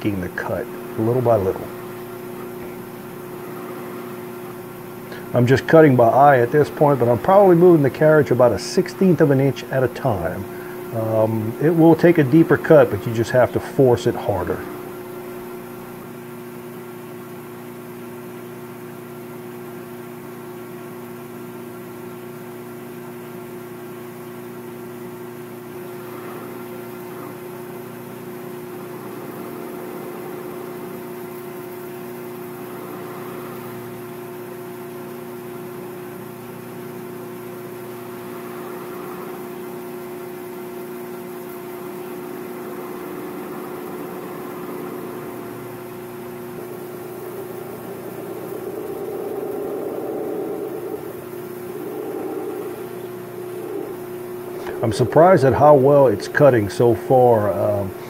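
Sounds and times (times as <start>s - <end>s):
lathe drive hum: 0.0s - 58.0s.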